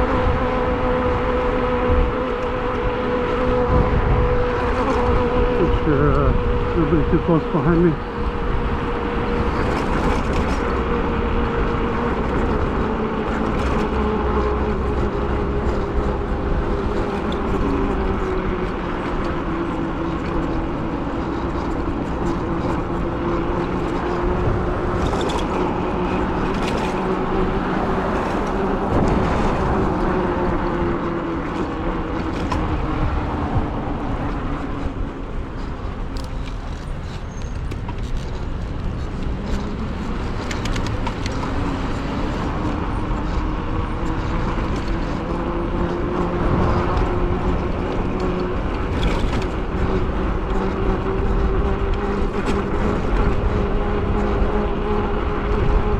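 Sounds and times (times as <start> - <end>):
electric bike motor whining: 0.0 - 55.9
road noise: 0.0 - 55.9
wind noise: 0.0 - 55.9.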